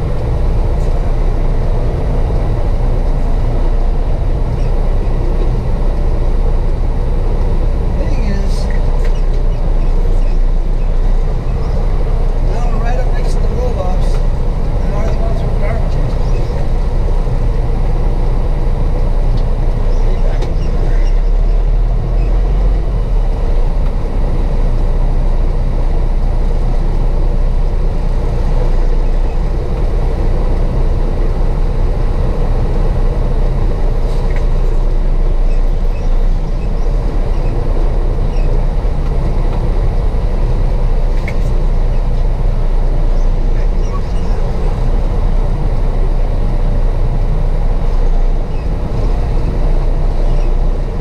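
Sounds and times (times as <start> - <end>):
diesel truck engine and road noise: 0.0 - 51.0.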